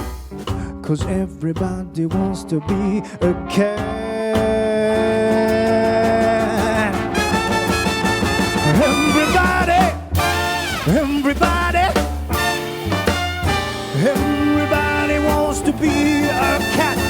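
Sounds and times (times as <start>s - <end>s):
swing jazz band playing: 0.0s - 17.0s
held horn chords: 2.6s - 17.0s.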